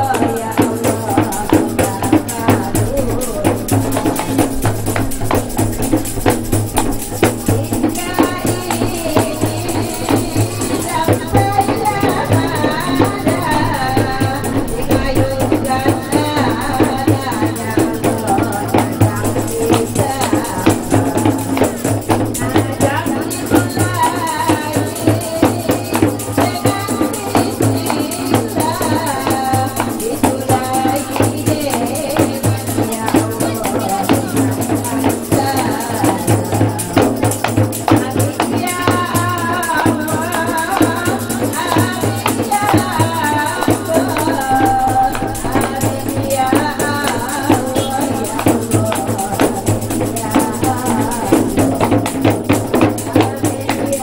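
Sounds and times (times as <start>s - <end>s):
frame drums beaten in rhythm: 0.0s - 54.0s
tambourine jingling: 0.0s - 54.0s
voices singing: 0.0s - 54.0s.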